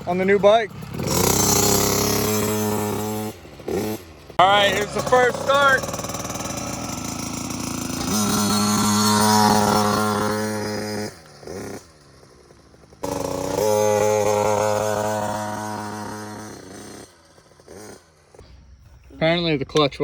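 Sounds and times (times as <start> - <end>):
two-stroke motorbike engine revving: 0.0 - 18.4.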